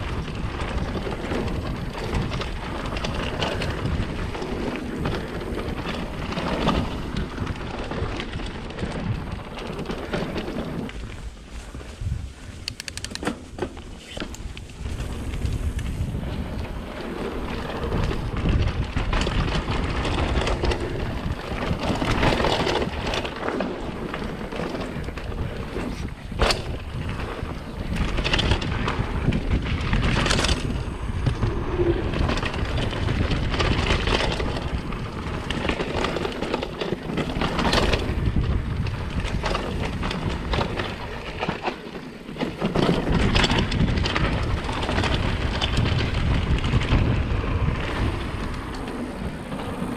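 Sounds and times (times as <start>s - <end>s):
tyres rumbling over dirt: 0.0s - 12.2s, 13.2s - 49.9s
bike rattling over bumps: 0.0s - 49.9s
wind buffeting microphone: 0.0s - 49.9s.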